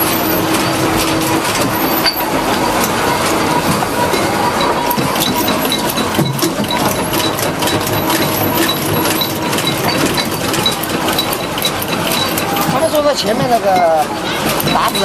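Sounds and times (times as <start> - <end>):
fast even machine clicking: 0.0 - 15.0
steady mechanical noise: 0.0 - 15.0.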